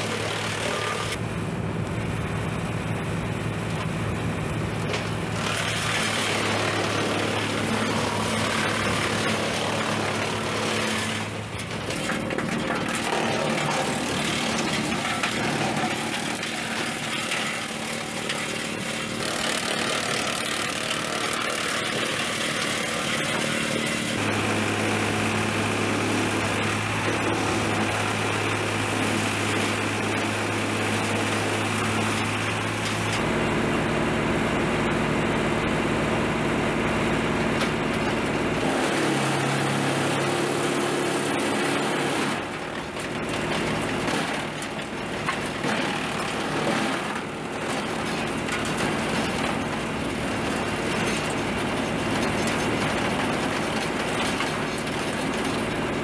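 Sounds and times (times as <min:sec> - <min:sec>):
tractor engine drone: 0:00.0 - 0:56.0
wood chipper shredding branches: 0:00.0 - 0:56.0.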